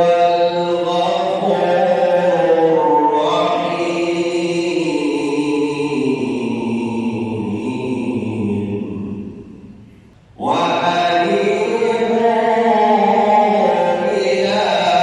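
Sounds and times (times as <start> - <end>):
man chanting melodically: 0.0 - 9.5, 10.4 - 15.0.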